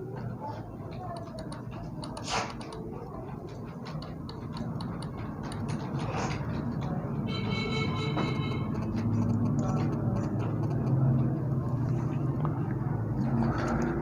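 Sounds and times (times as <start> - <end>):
keyboard keys clicking: 0.9 - 14.0.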